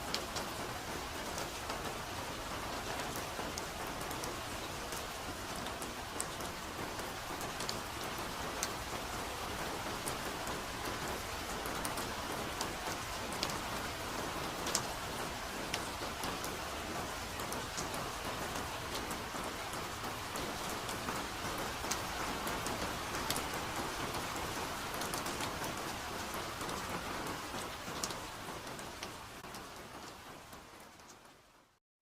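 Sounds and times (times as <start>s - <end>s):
raindrops ticking on surfaces: 0.0s - 31.8s
soft rain hiss: 0.0s - 31.8s.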